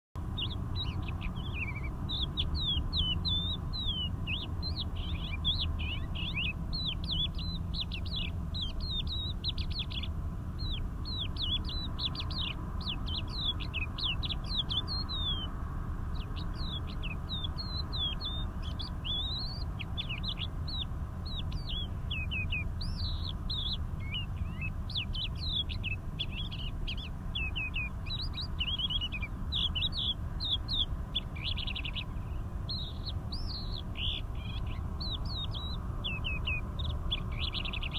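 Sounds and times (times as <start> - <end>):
lark singing: 0.2 - 37.9
low steady rumble: 0.2 - 37.9.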